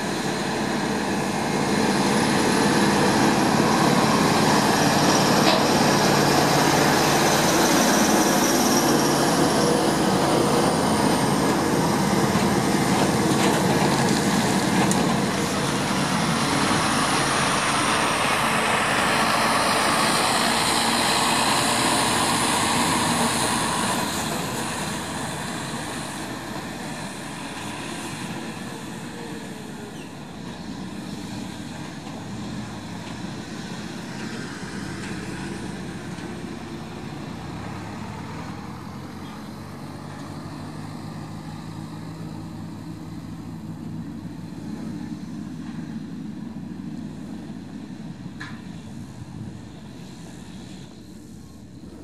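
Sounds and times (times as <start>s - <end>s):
heavy diesel engines droning: 0.0s - 52.0s.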